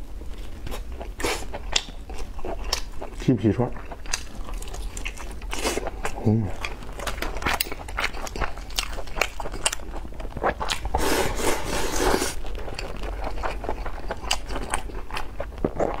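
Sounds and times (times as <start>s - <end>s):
chewing and mouth sounds: 0.3s - 11.0s, 12.3s - 16.0s.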